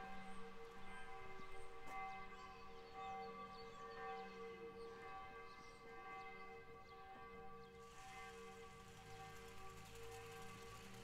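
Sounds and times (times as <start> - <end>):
church bells ringing: 0.0 - 10.9.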